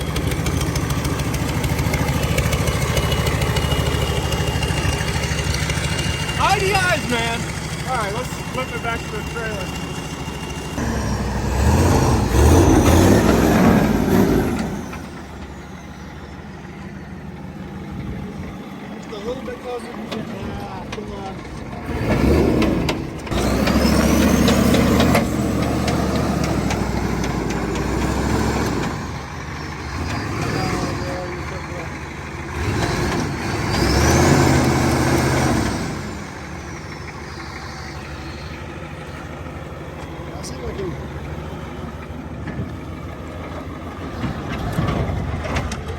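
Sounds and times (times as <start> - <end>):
diesel truck engine revving: 0.0 - 45.9.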